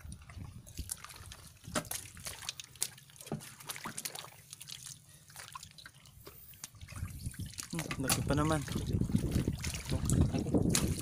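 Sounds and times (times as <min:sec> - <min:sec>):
feet wading through shallow water: 0:00.0 - 0:11.0
water dripping and splashing: 0:00.0 - 0:11.0.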